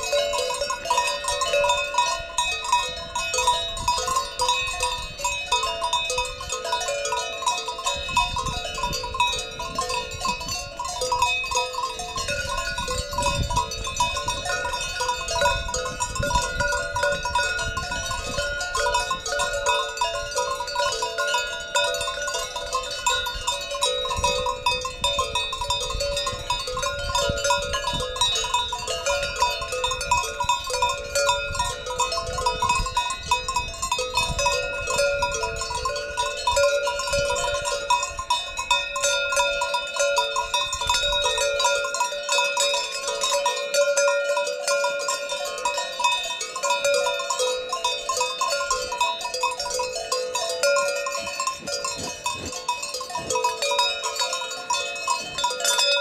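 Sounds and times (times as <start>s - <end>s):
cowbells clanking: 0.0s - 56.0s.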